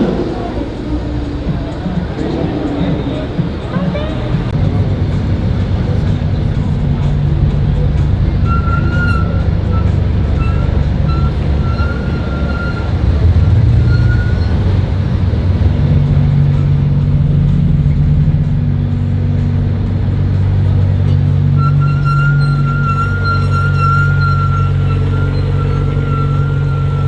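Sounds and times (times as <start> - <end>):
car engines in traffic: 0.0 - 27.0.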